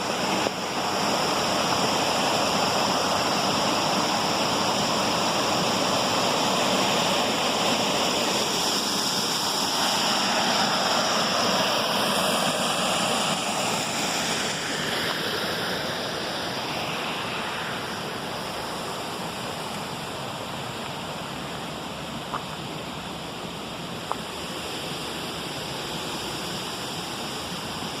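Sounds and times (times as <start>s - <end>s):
waterfall rushing and splashing: 0.0s - 28.0s.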